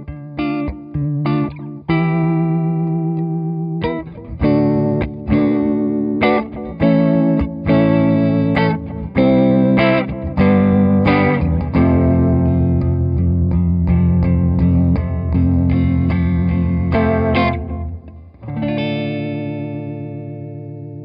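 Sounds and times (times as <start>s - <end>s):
electric guitar chords with vibrato: 0.0s - 21.0s.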